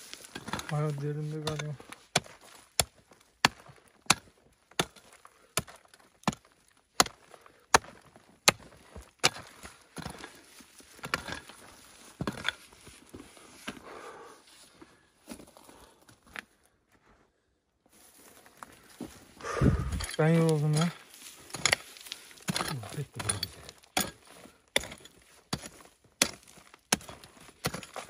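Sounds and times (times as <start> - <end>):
pick-mattock striking stony ground: 0.0 - 14.0, 18.0 - 28.0
dirt scraping: 0.0 - 16.0, 17.9 - 28.0.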